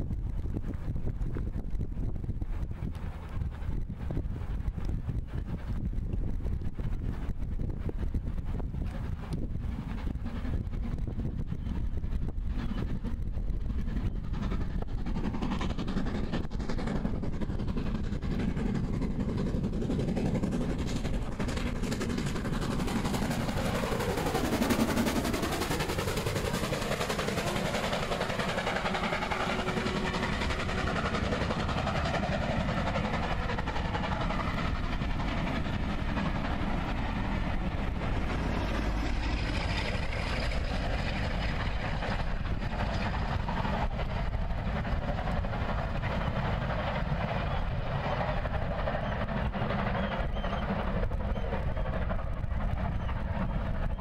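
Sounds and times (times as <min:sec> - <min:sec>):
steam locomotive passing: 0:00.0 - 0:54.0
train coaches rolling past: 0:06.7 - 0:54.0.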